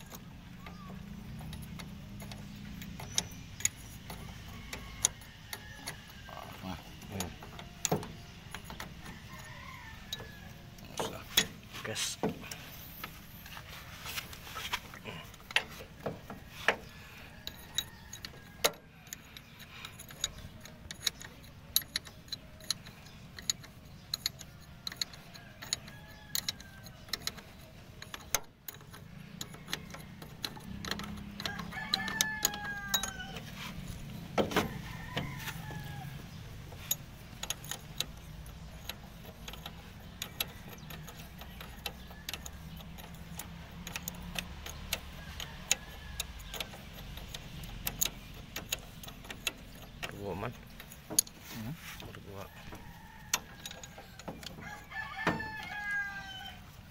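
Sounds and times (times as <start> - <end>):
wrenches clinking on metal: 0.0 - 56.9.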